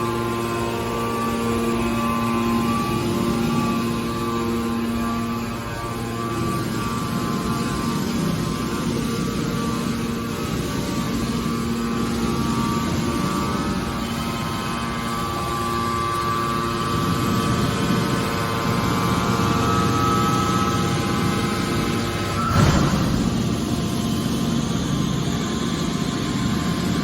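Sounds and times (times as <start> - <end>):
hydraulic baler drone with whine: 0.0 - 27.0.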